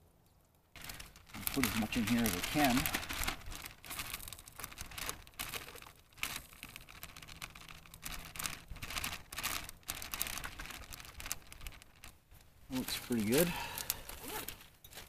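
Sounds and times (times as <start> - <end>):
plastic bag crinkling: 0.8 - 15.0.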